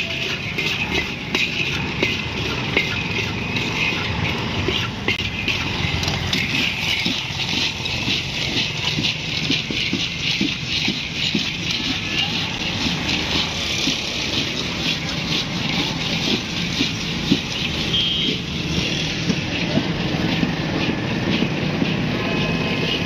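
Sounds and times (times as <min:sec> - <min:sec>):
scoop stirring sand in metal wok: 0:00.0 - 0:19.3.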